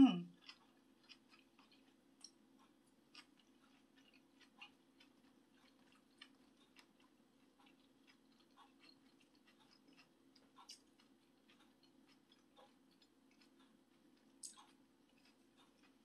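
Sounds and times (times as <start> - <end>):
low steady hum: 0.0 - 16.0
quiet chewing: 0.2 - 16.0.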